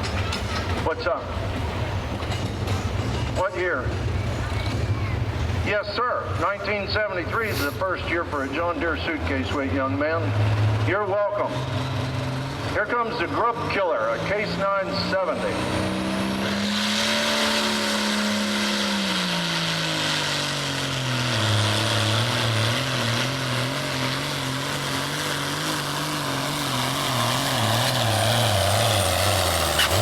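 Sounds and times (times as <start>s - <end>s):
tractor engine running hard: 0.0s - 30.0s.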